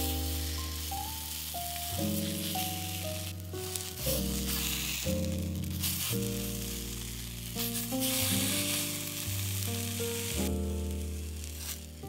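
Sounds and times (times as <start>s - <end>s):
background music with sustained notes: 0.0s - 12.0s
sausages sizzling in frying pan: 0.0s - 12.0s.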